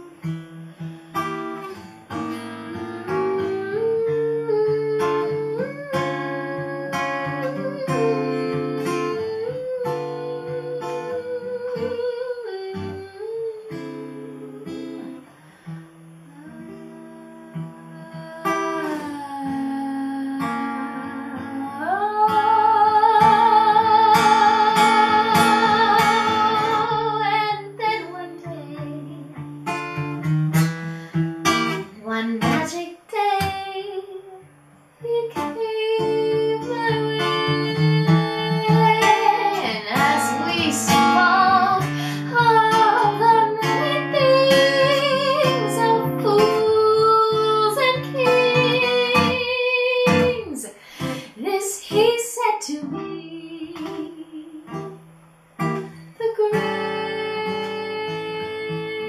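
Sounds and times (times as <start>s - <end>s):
acoustic guitar: 0.0s - 59.0s
woman singing a slow ballad: 1.2s - 55.0s, 55.6s - 59.0s.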